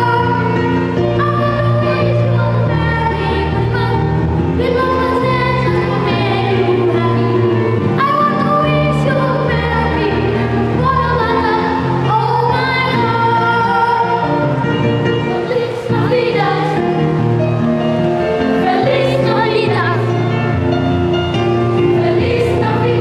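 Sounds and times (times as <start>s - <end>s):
children's choir singing: 0.0s - 20.6s, 21.6s - 23.0s
instrumental accompaniment: 0.0s - 23.0s.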